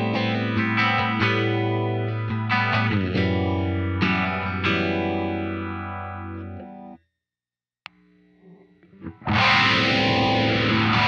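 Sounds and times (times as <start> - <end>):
electric guitar with phaser sweep: 0.0 - 6.8, 8.8 - 11.0.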